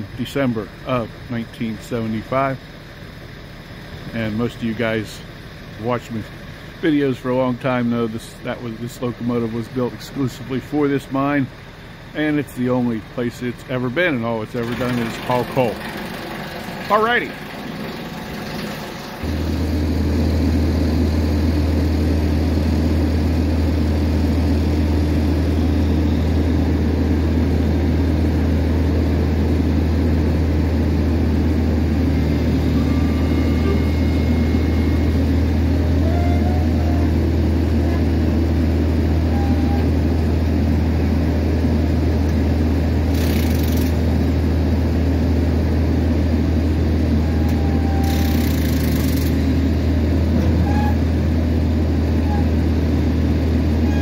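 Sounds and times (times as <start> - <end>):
truck engine and hydraulics running: 0.0 - 54.0.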